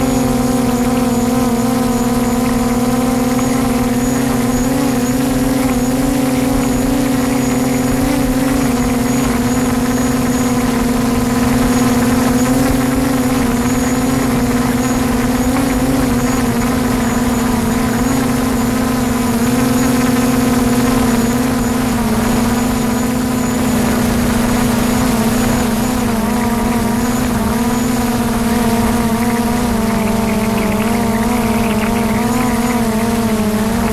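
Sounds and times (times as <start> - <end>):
drone propellers humming: 0.0 - 33.9.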